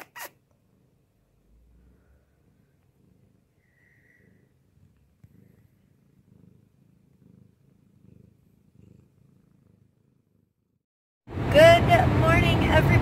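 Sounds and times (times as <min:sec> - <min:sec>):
cat purring: 0:00.0 - 0:10.8.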